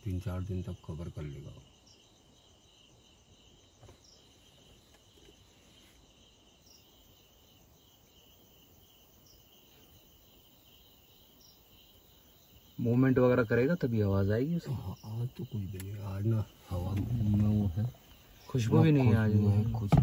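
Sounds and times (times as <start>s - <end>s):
crickets chirring: 0.0s - 20.0s
higher insect chirp: 0.0s - 20.0s.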